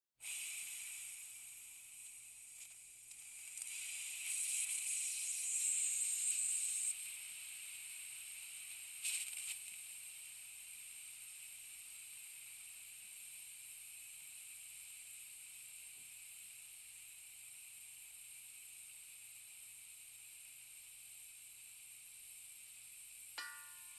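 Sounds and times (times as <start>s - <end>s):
compressed air hissing from tank: 0.2s - 23.2s.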